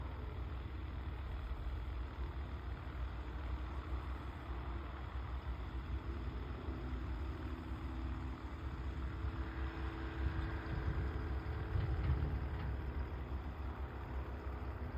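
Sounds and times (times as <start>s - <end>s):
faint engine hum: 0.0s - 14.9s.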